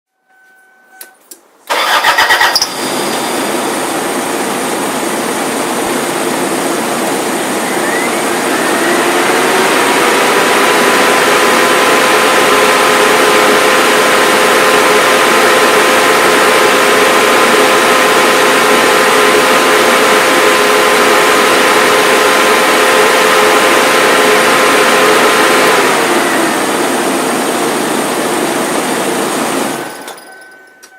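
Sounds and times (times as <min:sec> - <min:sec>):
electric fan whining: 0:00.9 - 0:30.9
car engine starting and running: 0:01.7 - 0:30.9.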